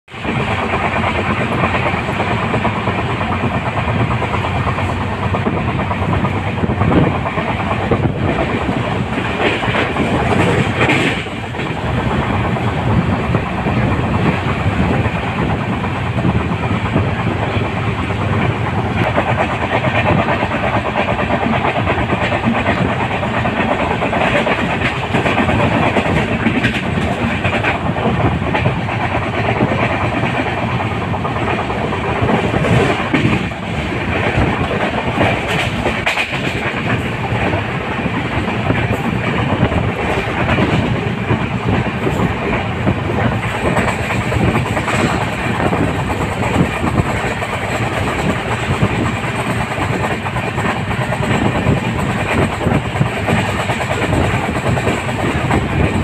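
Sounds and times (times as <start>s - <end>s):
continuous train rumble: 0.0s - 56.0s
train wheels clattering: 0.1s - 56.0s.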